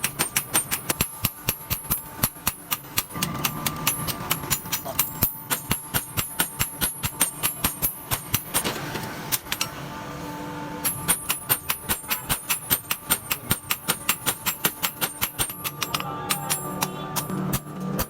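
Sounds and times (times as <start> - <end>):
hammer striking hot iron on anvil: 0.0 - 8.7, 10.8 - 18.0.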